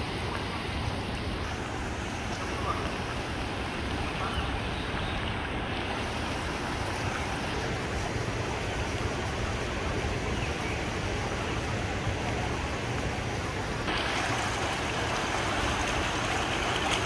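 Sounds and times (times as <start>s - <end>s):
river water rushing over weir: 0.0s - 17.0s.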